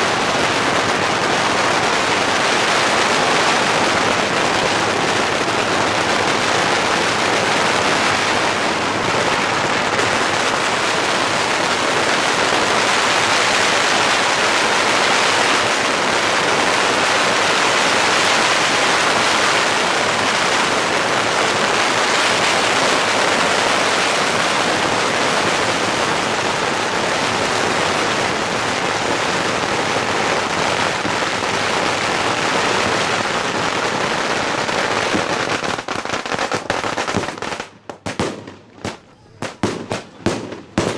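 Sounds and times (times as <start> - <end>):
firecrackers crackling: 0.0 - 40.9.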